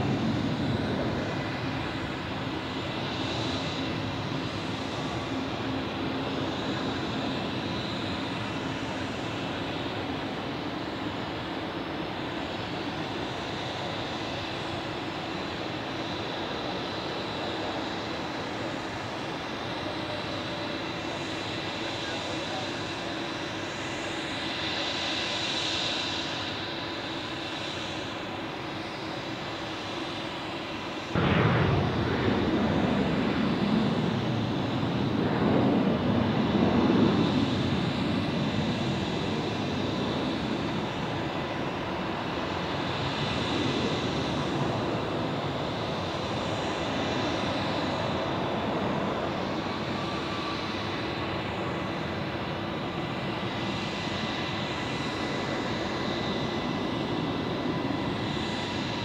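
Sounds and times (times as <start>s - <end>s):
jet engines running with whine: 0.0s - 59.0s
landing jet engine roar: 0.0s - 59.0s.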